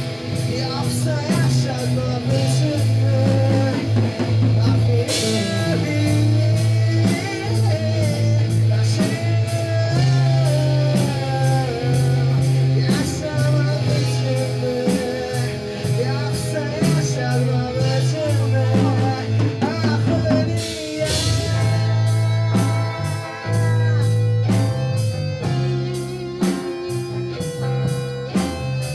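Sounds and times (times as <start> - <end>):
rock band playing: 0.0 - 28.9.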